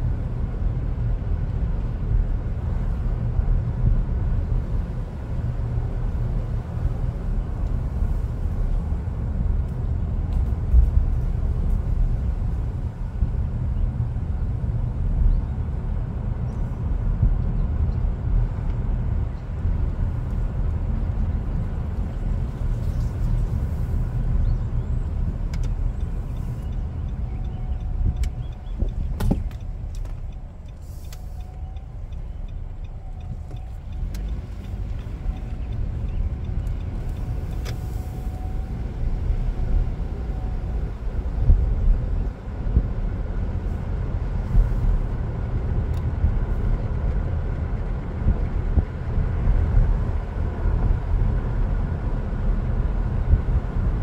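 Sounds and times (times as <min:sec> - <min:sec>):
car driving rumble from inside: 0:00.0 - 0:54.0.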